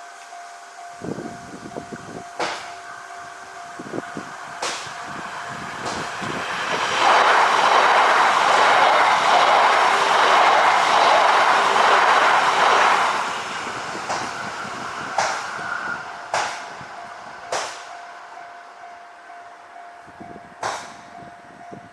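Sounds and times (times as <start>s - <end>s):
train passing at speed: 0.0s - 21.9s.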